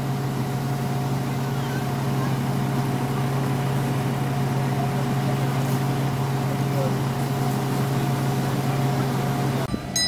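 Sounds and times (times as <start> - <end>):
fire engine motor humming: 0.0 - 10.0.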